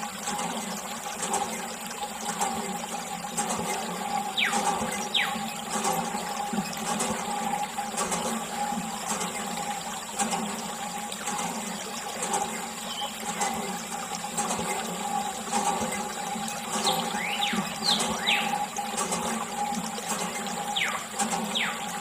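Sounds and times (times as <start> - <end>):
water jet splashing and trickling: 0.0 - 22.0.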